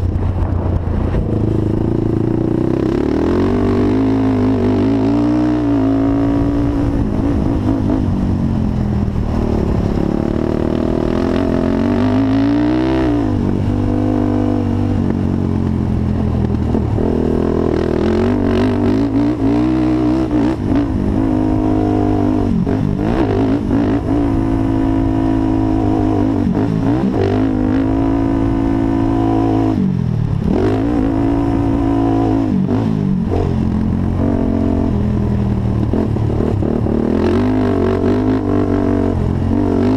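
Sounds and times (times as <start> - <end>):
quad engine revving: 0.7 - 8.1, 9.4 - 15.1, 16.6 - 39.9.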